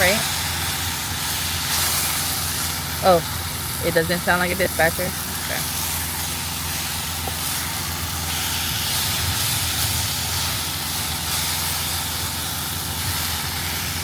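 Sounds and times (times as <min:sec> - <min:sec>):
diesel engine idling: 0:00.0 - 0:14.0
steady hiss: 0:00.0 - 0:14.0.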